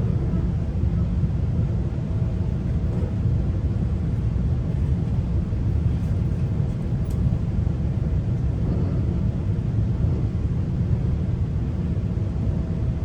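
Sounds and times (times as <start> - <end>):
train wheels rumbling on track: 0.0 - 12.9.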